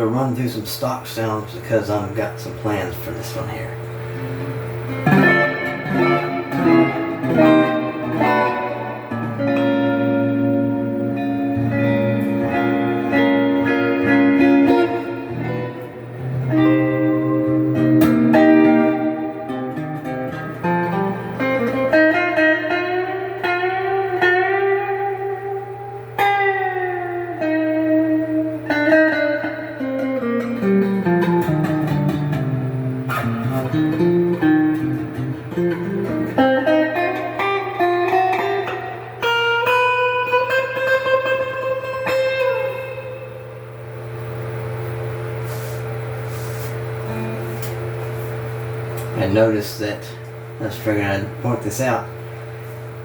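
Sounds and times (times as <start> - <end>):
electric guitar through amplifier: 0.0 - 53.0.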